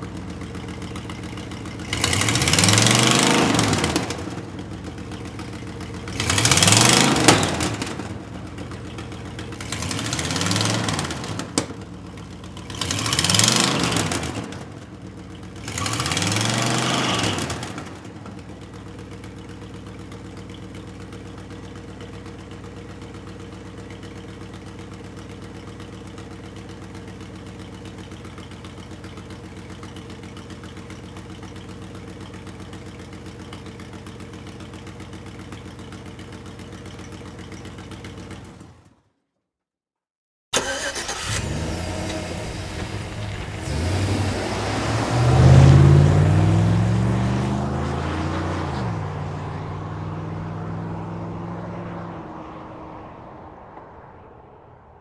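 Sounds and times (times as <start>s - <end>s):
vehicle engine idling and revving: 0.0s - 39.2s, 40.6s - 55.0s.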